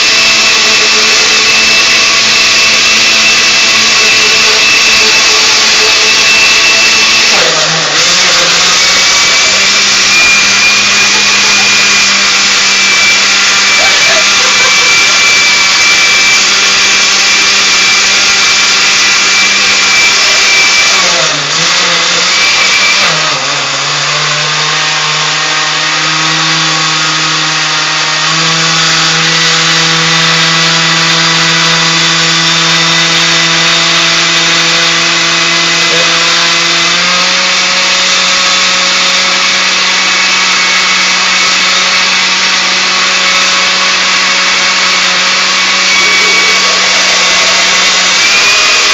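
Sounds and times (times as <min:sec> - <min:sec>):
blender motor running: 0:00.0 - 0:48.9.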